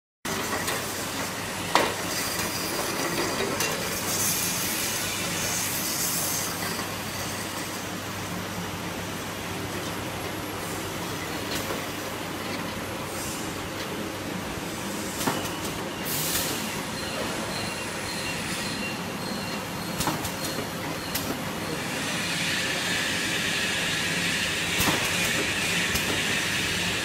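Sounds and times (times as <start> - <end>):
packaging machine hum and clatter: 0.3 - 27.0.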